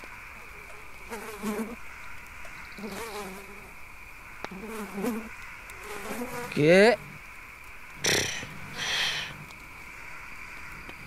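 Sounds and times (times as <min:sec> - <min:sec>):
insect buzzing: 0:00.0 - 0:11.0.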